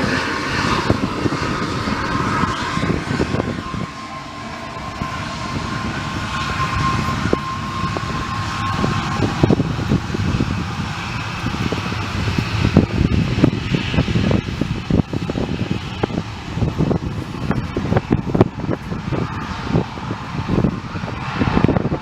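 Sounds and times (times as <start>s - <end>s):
aircraft engines high whine: 0.0s - 22.0s
low rumble: 0.0s - 22.0s
wind buffeting microphone: 0.0s - 22.0s.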